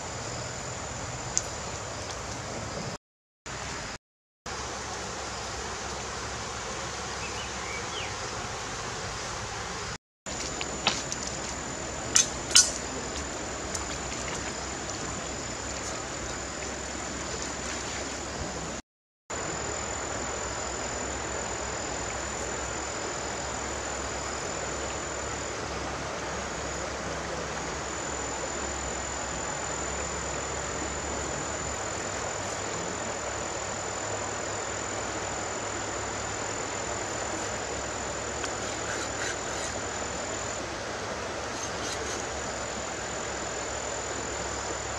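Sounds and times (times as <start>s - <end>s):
high insect whine: 0.0s - 18.8s, 19.4s - 44.9s.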